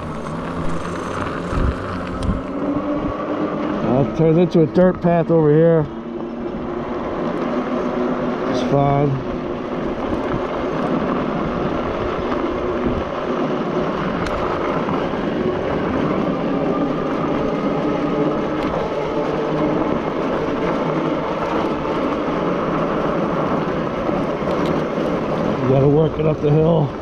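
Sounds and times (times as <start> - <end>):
bike tyres rolling on dirt: 0.0 - 27.0.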